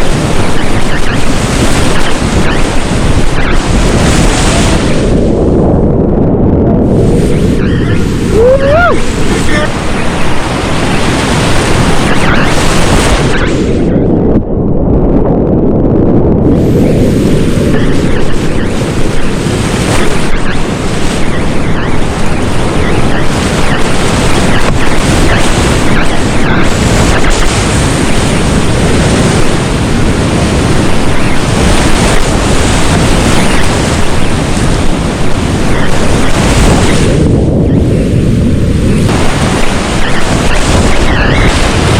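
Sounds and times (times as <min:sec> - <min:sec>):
whitewater rapids roaring: 0:00.0 - 0:05.2, 0:07.0 - 0:13.9, 0:17.7 - 0:37.2, 0:39.0 - 0:41.9
wind buffeting microphone: 0:00.0 - 0:41.9.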